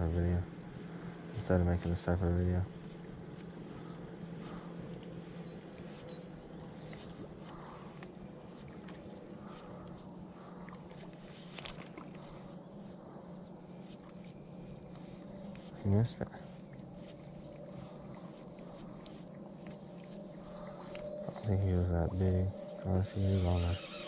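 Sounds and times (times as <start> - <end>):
light hiss: 0.0 - 24.0
steady low hum: 0.0 - 24.0.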